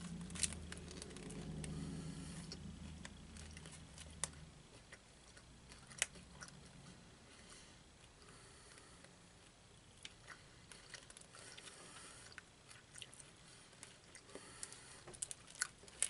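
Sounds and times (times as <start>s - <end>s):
chewing crunchy bar: 0.0s - 6.9s, 8.1s - 16.0s
low hum: 0.0s - 16.0s.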